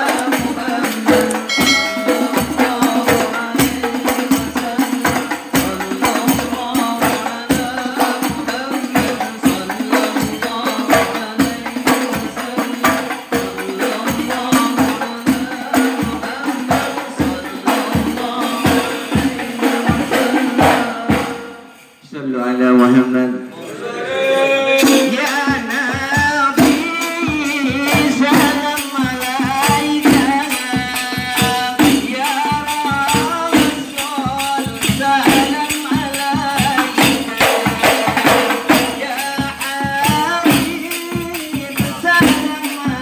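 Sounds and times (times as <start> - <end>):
frame drums beating fast rhythm: 0.0 - 22.0, 24.7 - 43.0.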